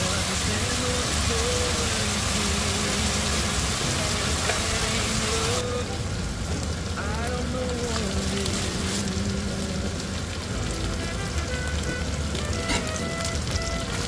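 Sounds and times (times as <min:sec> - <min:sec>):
food sizzling in a pan: 0:00.0 - 0:05.7, 0:07.8 - 0:14.0.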